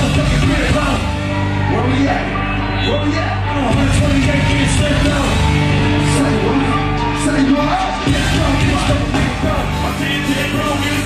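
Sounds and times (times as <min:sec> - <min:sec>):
live rap music over pa: 0:00.0 - 0:11.0
rapped shouted vocals: 0:00.0 - 0:11.0.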